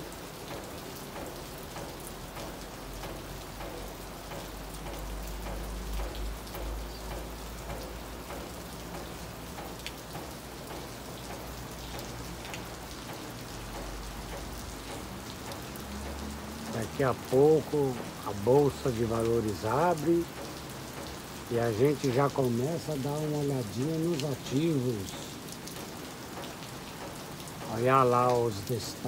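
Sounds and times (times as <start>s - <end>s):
rain on tile roofs: 0.0s - 29.0s
raindrops ticking close by: 0.0s - 29.0s.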